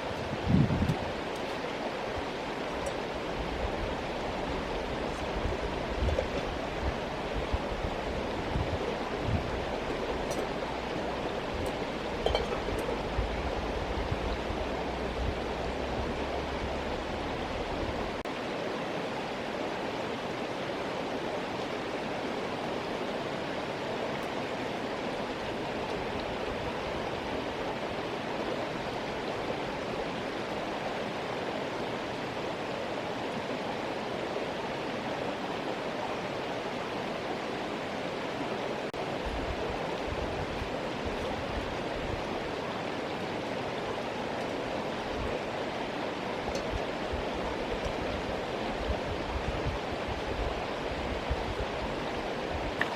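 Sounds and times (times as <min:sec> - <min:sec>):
stream water rushing: 0:00.0 - 0:52.9.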